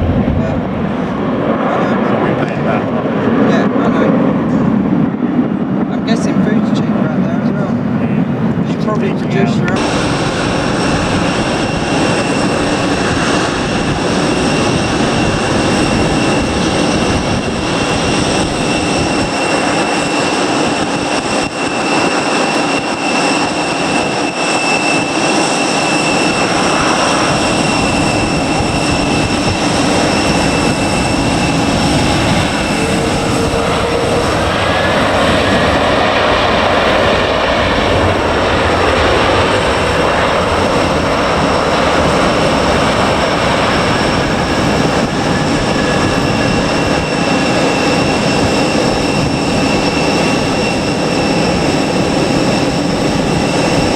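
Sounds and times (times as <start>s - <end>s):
high engine whine: 0.0s - 53.9s
jet engines rumbling: 0.0s - 53.9s.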